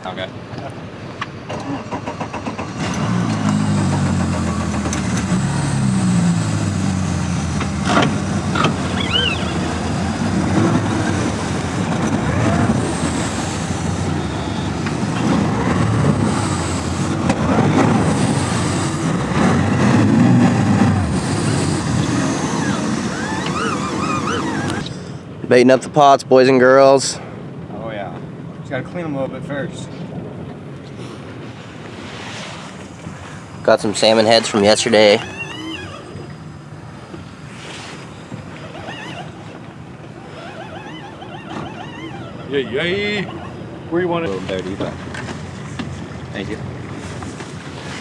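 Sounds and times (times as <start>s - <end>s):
boat outboard motors running: 0.0s - 25.4s, 27.4s - 48.0s.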